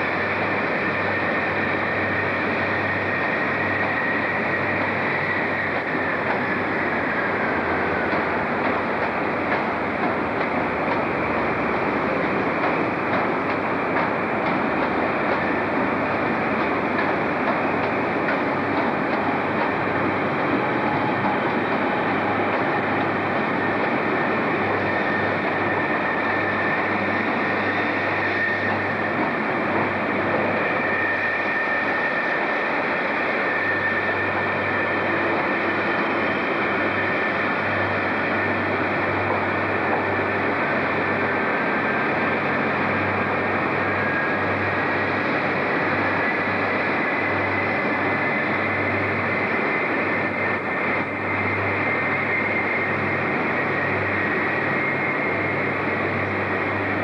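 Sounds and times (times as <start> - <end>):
train rumble and hum: 0.0 - 57.0.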